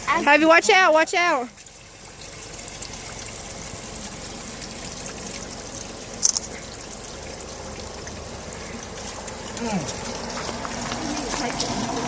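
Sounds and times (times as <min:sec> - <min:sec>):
spring water trickling: 0:00.0 - 0:12.0.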